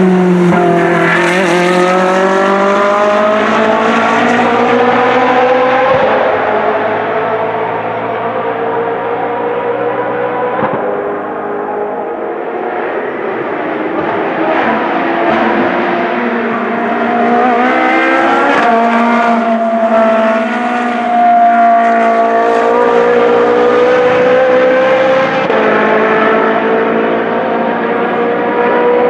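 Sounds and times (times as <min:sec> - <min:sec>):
race car accelerating past: 0:00.0 - 0:11.9, 0:12.6 - 0:29.0.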